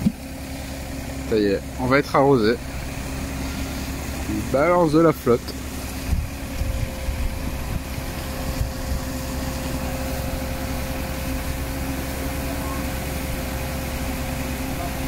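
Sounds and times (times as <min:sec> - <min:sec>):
diesel engines running under load: 0:00.0 - 0:15.0.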